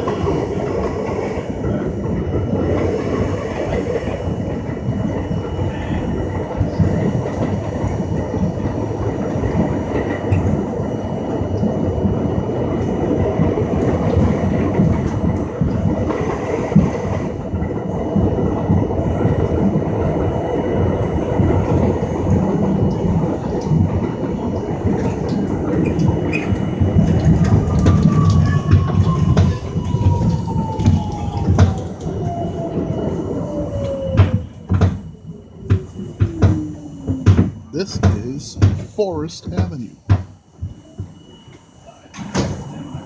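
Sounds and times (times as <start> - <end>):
train braking whine: 0.0 - 43.0
train wheels rumbling on rail: 0.0 - 43.0.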